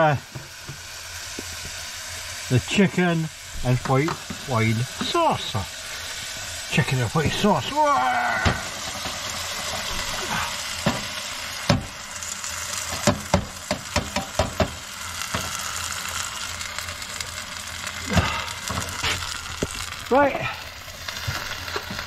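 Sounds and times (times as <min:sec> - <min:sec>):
mushrooms sizzling in hot oil: 0:00.0 - 0:22.0.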